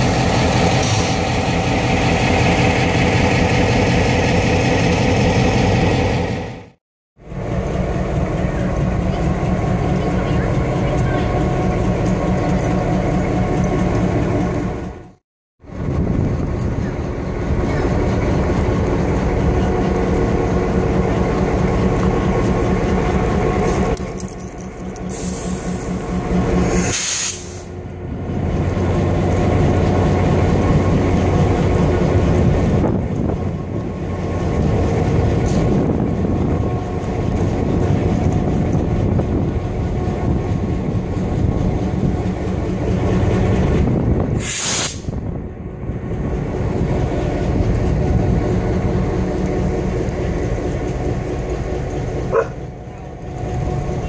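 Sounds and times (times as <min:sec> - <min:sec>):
diesel locomotive engine rumbling: 0:00.0 - 0:54.0.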